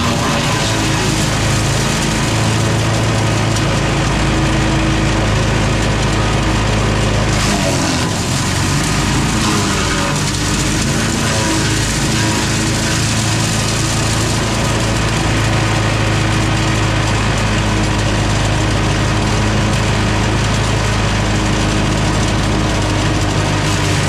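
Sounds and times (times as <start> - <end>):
chipper shredder engine droning: 0.0 - 24.0.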